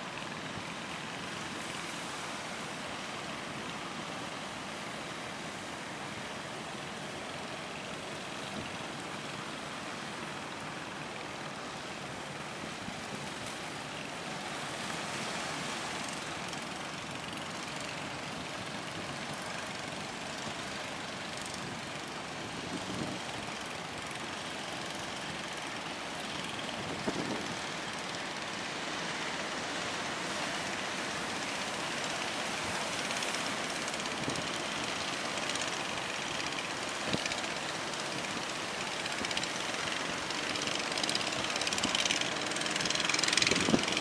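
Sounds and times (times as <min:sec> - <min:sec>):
surf and churning sea water: 0:00.0 - 0:44.0.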